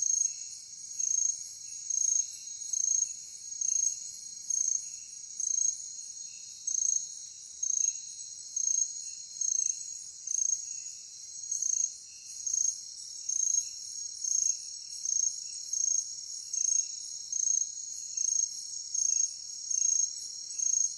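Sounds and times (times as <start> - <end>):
crickets trilling: 0.0 - 20.9
loud cricket chirp: 0.0 - 20.9.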